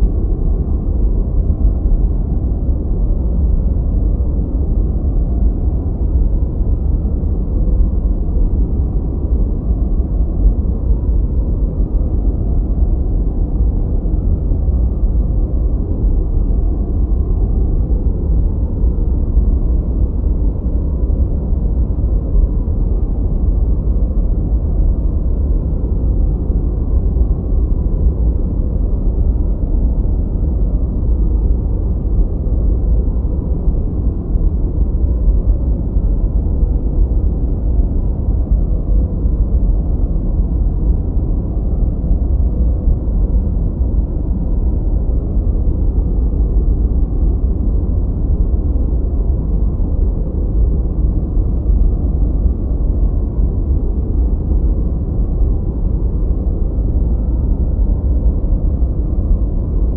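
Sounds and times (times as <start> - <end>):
deep steady rumble noise: 0.0 - 59.9.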